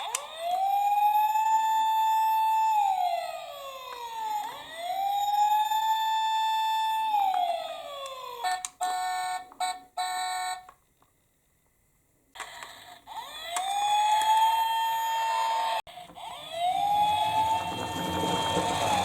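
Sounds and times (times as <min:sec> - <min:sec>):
toy electronic siren wailing: 0:00.0 - 0:10.6, 0:12.4 - 0:19.0.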